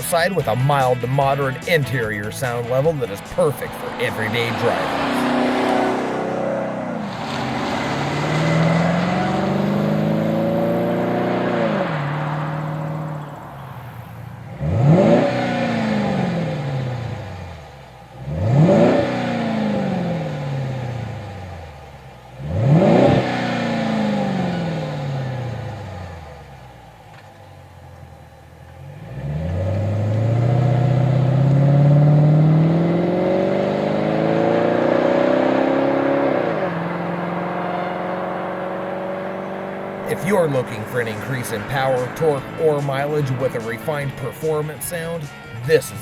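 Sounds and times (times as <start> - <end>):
vehicle engine revving: 0.0 - 46.0.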